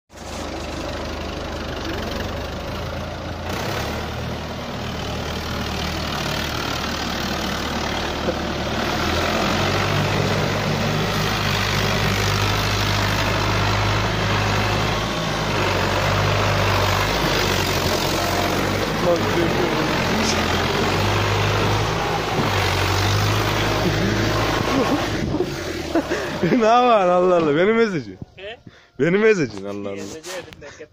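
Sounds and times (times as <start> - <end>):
tractor diesel engine running: 0.1 - 29.4.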